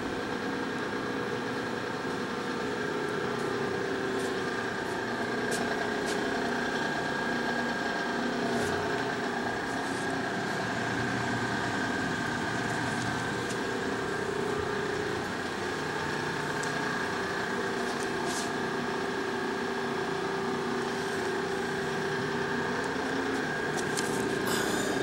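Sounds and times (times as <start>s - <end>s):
shop machinery humming: 0.0s - 25.0s.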